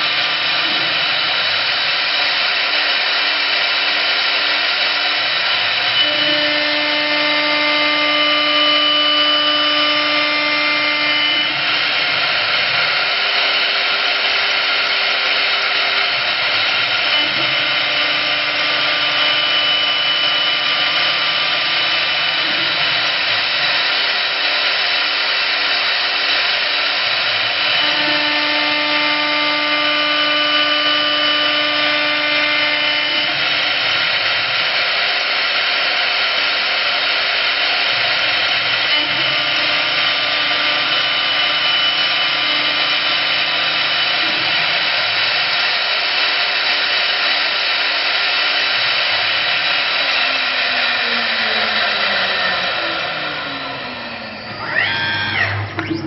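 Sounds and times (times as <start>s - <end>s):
lathe spindle whine cutting wood: 0.0s - 56.0s.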